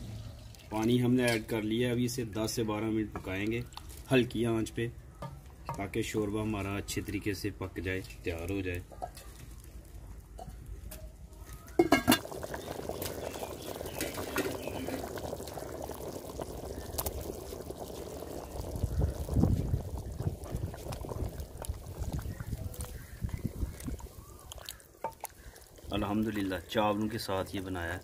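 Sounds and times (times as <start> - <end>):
curry bubbling in pot: 0.0 - 4.7, 8.5 - 28.0.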